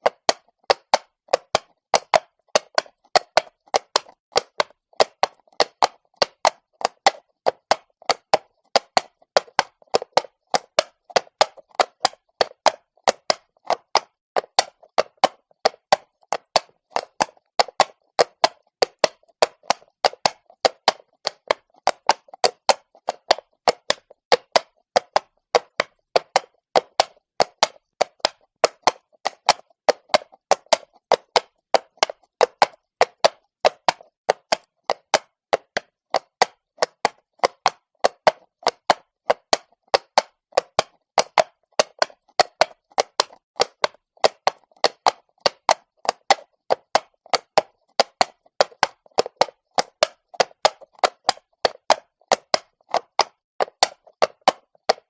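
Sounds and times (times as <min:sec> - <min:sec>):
horse hooves on cobblestones: 0:00.0 - 0:55.0.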